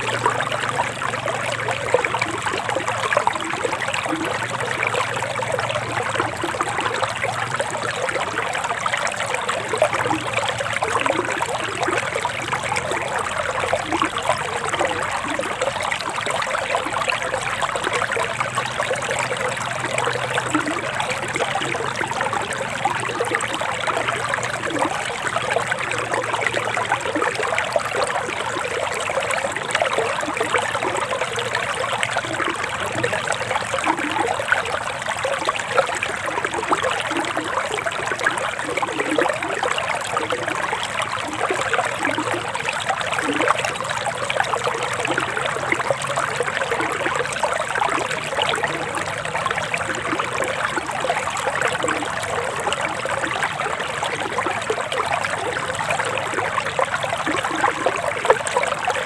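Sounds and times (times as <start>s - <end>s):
river water babbling over stones: 0.0s - 59.0s.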